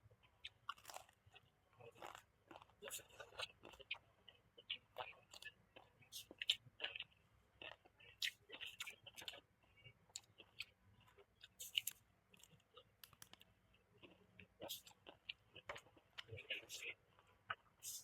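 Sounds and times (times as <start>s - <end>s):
chewing food: 0.2s - 18.0s.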